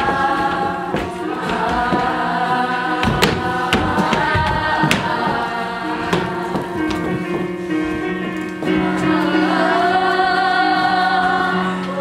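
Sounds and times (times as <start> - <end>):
choir-like singing music: 0.0 - 12.0.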